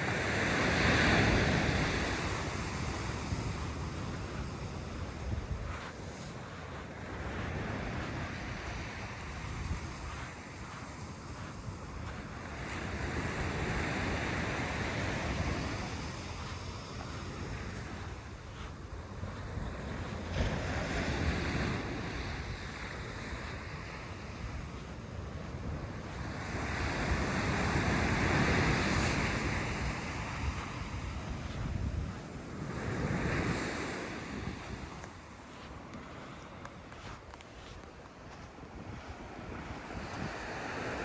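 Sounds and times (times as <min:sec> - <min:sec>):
ocean waves breaking: 0:00.0 - 0:41.0
wind noise on microphone: 0:00.0 - 0:41.0.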